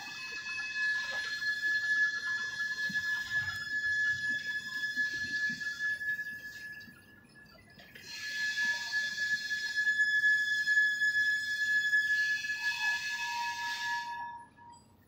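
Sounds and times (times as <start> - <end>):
conveyor high-pitched squeal: 0.0 - 15.0.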